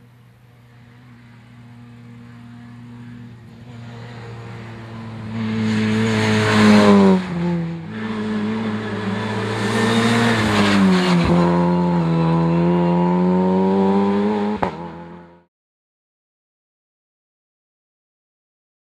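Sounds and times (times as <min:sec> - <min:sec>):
rally car engine at full throttle: 0:00.0 - 0:15.5.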